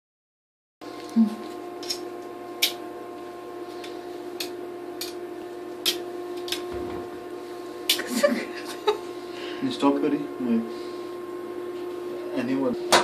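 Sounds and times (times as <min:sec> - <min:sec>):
electrical hum: 0:00.8 - 0:13.0.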